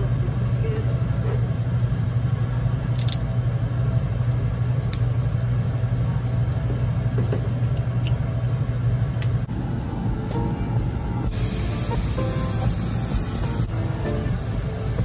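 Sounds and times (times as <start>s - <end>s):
ventilation droning hum: 0.0s - 15.0s.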